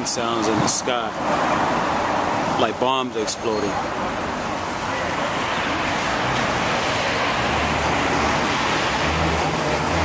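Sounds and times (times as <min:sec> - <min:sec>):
city street traffic: 0:00.0 - 0:10.0.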